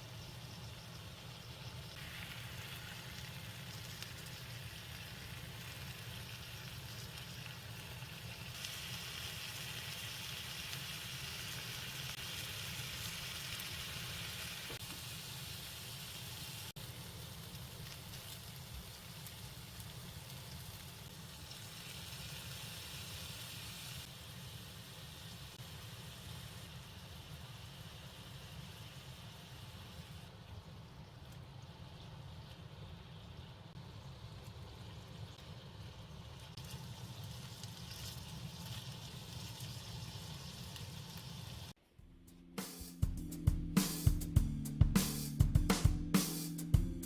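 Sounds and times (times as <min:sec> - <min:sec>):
food sizzling in a frying pan: 0:00.0 - 0:41.8.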